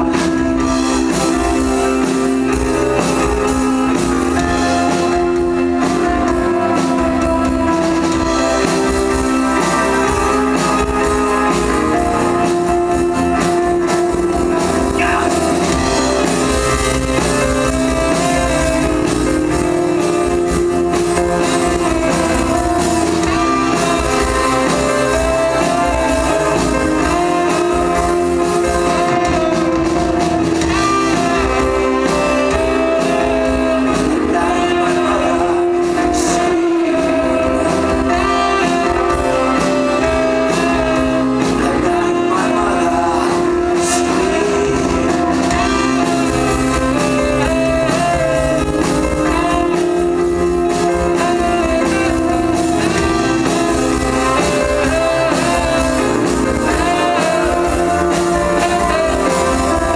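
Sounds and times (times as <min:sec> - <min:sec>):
live band playing: 0:00.0 - 0:59.9
person singing: 0:00.0 - 0:59.9.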